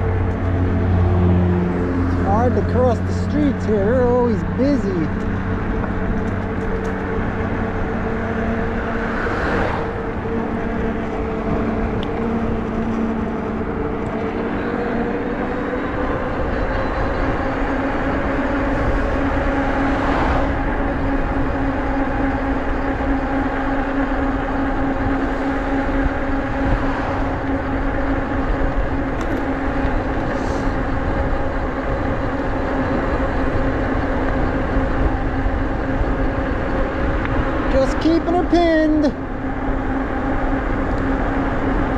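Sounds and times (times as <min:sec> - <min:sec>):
electric bike motor hum: 0:00.0 - 0:41.9
wind rumble on microphone: 0:00.0 - 0:41.9.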